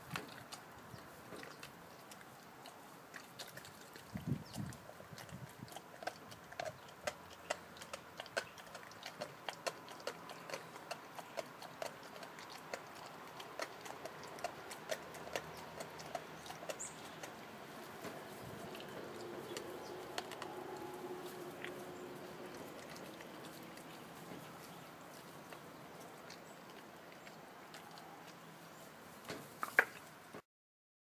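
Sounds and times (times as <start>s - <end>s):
dog chewing and crunching bone: 0.0s - 28.5s.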